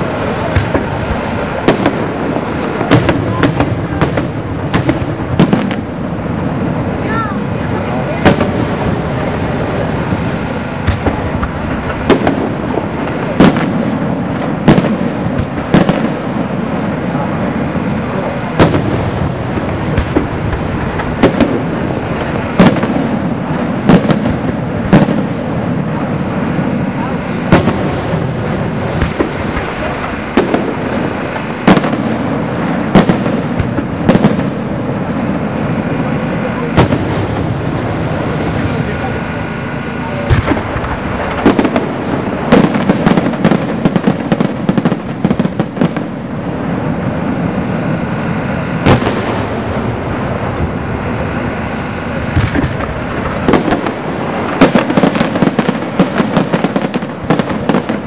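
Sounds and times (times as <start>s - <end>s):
firework rumble and crackle: 0.0s - 58.0s
steady loud din: 0.0s - 58.0s.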